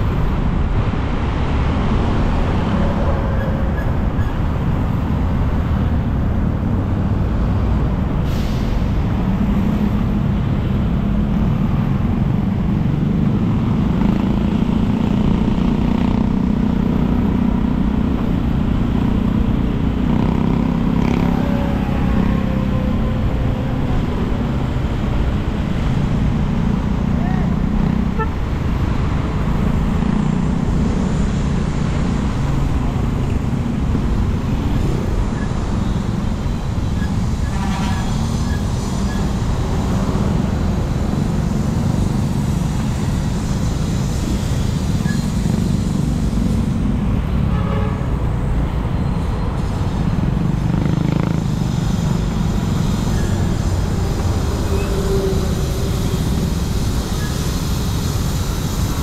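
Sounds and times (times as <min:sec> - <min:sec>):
traffic engines rumbling: 0:00.0 - 0:59.0.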